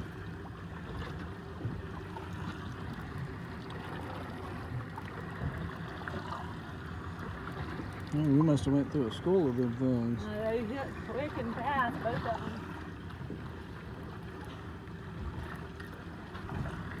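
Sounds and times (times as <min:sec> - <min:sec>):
boat motor running: 0:00.0 - 0:17.0
water washing along hull: 0:00.0 - 0:17.0.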